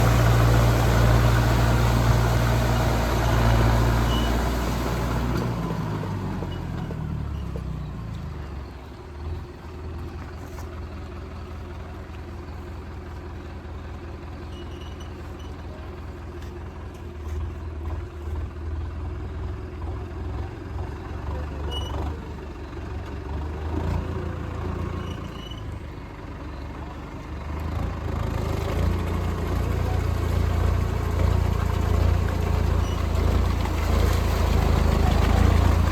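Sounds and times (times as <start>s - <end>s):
tractor diesel engine revving: 0.0s - 14.3s, 20.8s - 35.9s.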